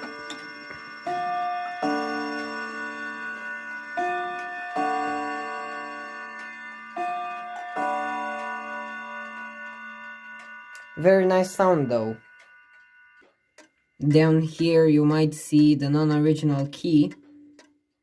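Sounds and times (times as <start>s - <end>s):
clock chime rods striking: 0.0s - 17.2s.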